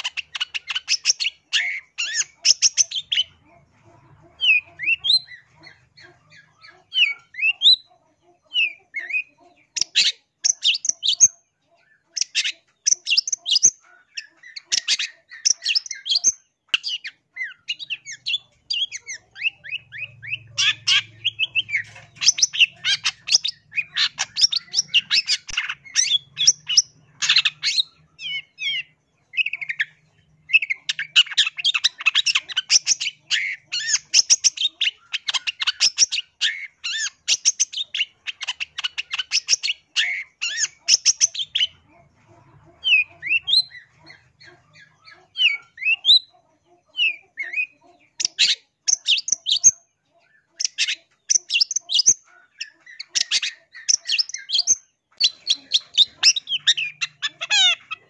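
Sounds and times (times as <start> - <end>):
bird chattering and whistling: 0.0 - 58.0.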